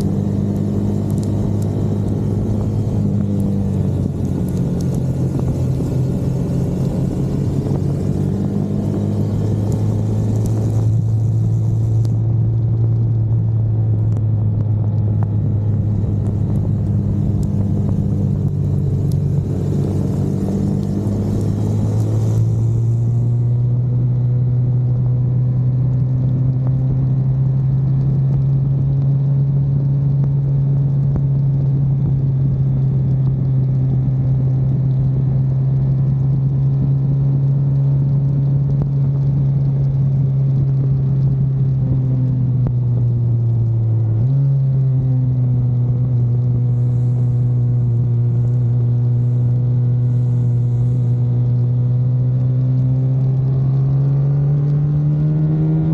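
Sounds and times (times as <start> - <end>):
racing car engine drone: 0.0 - 55.9.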